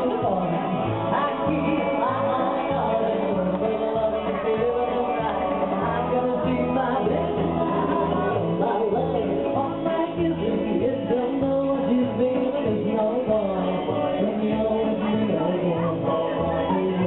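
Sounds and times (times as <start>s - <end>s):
instrumental backing music: 0.0s - 17.0s
woman singing: 0.0s - 17.0s.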